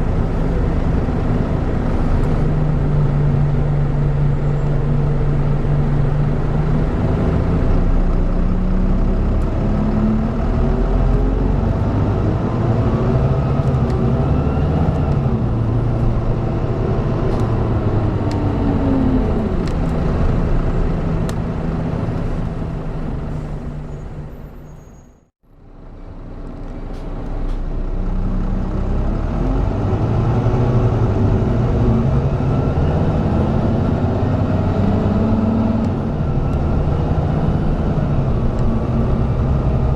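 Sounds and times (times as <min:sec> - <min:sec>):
bus diesel engine accelerating: 0:00.0 - 0:39.9.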